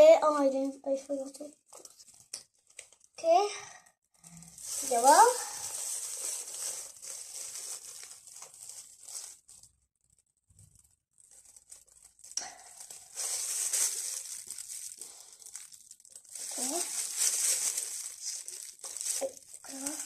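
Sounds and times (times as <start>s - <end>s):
plastic glove crinkling: 1.4s - 3.2s, 4.1s - 20.0s.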